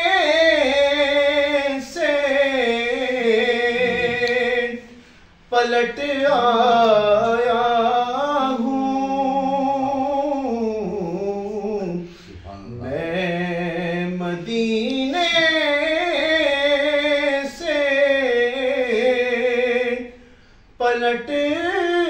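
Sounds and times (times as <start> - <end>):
man singing unaccompanied: 0.0 - 20.2, 20.8 - 22.0.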